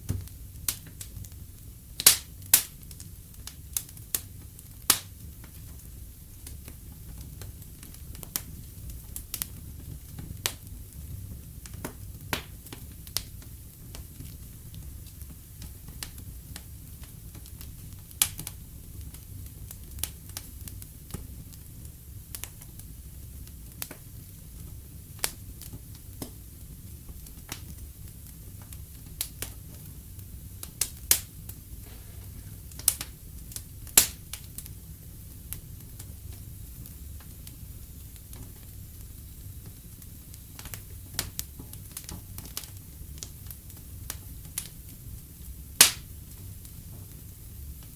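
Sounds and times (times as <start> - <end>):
low rumble of flames: 0.0 - 47.9
wood fire crackling and popping: 0.0 - 47.9.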